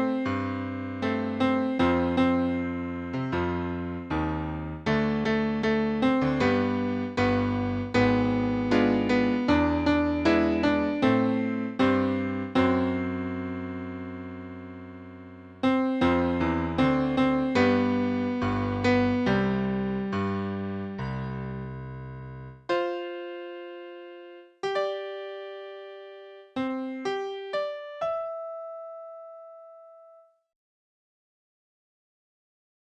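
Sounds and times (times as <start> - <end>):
piano keyboard music: 0.0 - 30.3.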